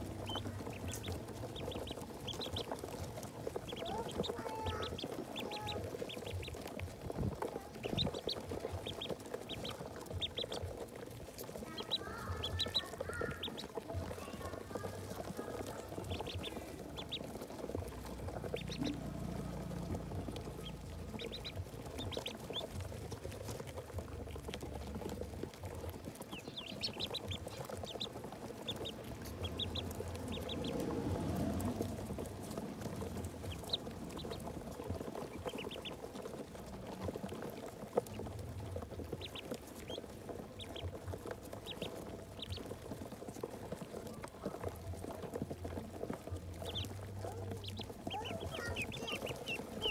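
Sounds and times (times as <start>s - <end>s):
ducklings peeping: 0.0s - 49.9s.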